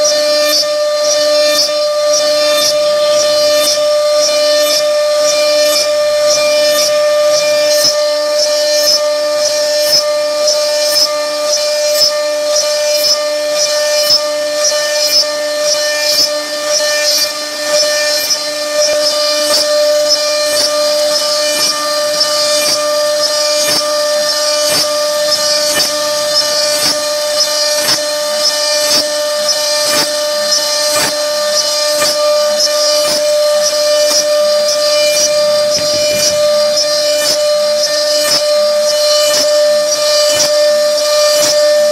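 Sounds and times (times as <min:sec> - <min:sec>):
wood router whining while cutting: 0:00.0 - 0:41.9.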